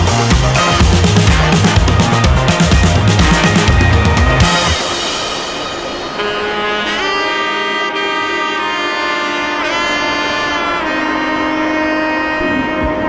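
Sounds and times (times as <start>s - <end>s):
held wind or brass melody: 0.0s - 13.0s.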